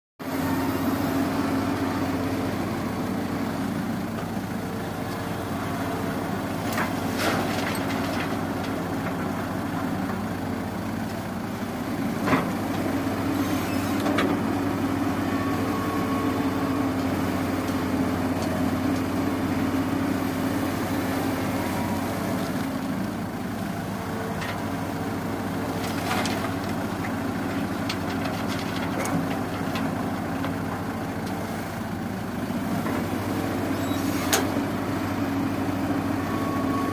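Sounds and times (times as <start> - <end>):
diesel engine running: 0.2 - 36.9.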